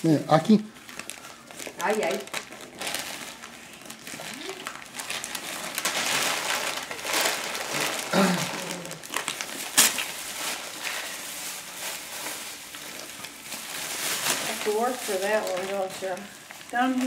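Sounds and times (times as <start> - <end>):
wrapping paper tearing: 0.7 - 17.0.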